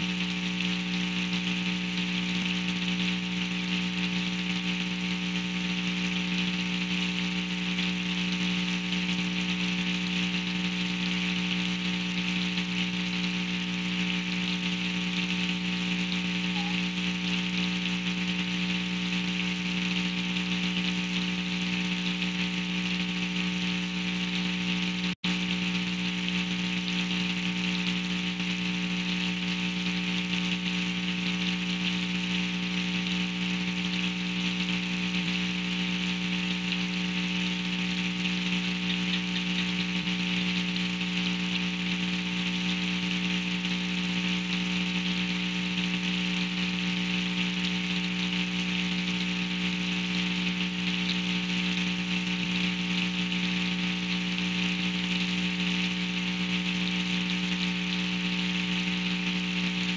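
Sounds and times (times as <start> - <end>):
low electrical buzz: 0.0 - 59.9
steady rain hiss: 0.0 - 59.9.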